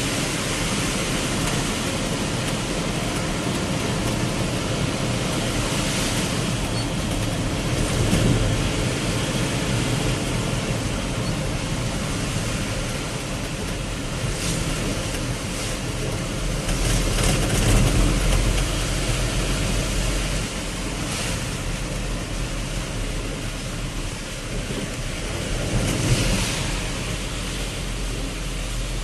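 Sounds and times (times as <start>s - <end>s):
vehicle road noise in heavy rain: 0.0s - 29.0s
wind hiss: 0.0s - 29.0s.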